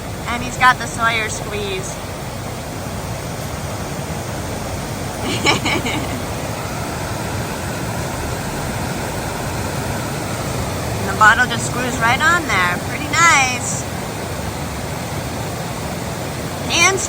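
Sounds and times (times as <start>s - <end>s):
flowing water: 0.0s - 17.0s.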